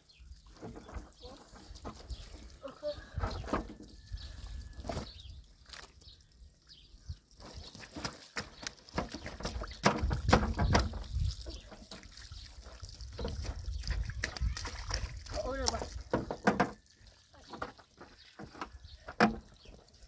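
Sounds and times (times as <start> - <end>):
water drips and spatters: 0.0 - 20.0
water trickling and splashing: 0.0 - 20.0.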